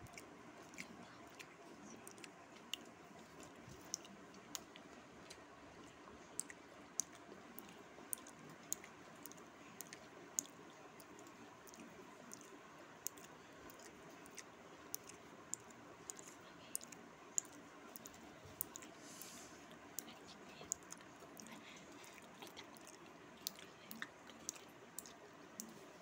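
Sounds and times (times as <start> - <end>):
faint chewing: 0.0 - 26.0.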